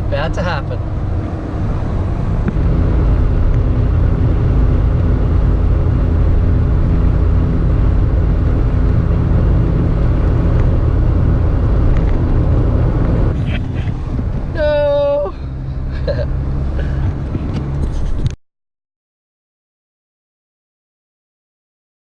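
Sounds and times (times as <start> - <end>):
car engine at steady revs: 0.0 - 18.4
road rumble: 0.0 - 18.4.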